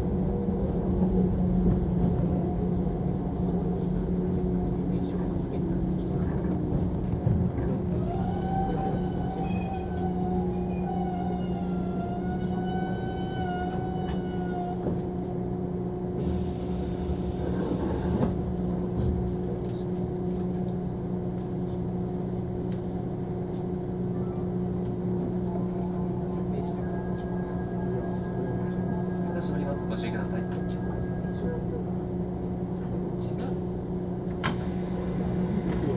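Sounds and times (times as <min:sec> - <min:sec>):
train motors and wheels hum: 0:00.0 - 0:35.9.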